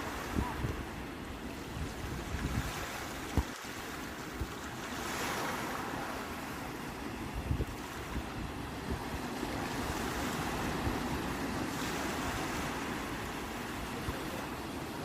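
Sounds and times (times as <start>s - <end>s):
sea waves breaking on shore: 0.0s - 15.0s
wind buffeting microphone: 0.0s - 15.0s.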